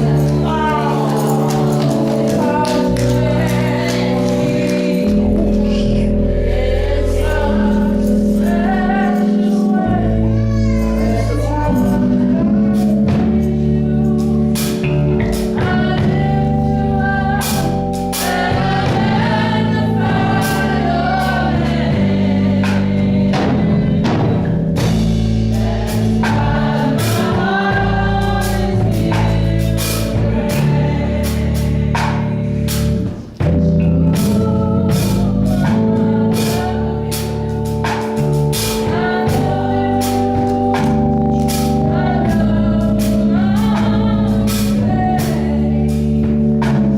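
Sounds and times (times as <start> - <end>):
steady drum beat: 0.0 - 10.3, 12.4 - 46.9
gospel singing: 0.0 - 46.9
held chords: 0.0 - 46.9.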